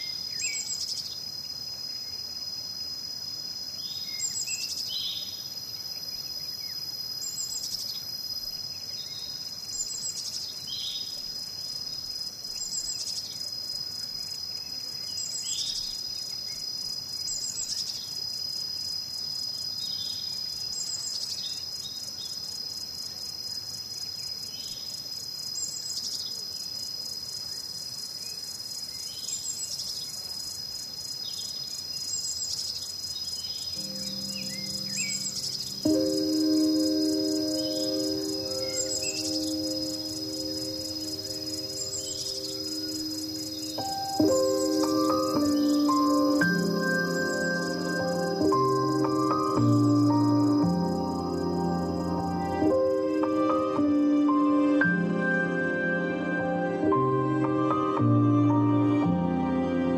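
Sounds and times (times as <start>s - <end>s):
insects trilling: 0.0s - 55.4s.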